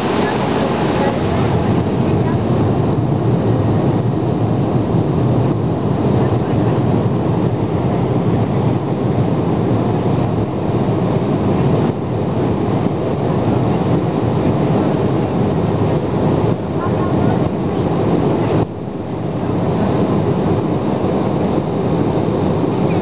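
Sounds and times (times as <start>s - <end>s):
jet engines roaring in cabin: 0.0s - 23.0s
rushing air: 0.0s - 23.0s.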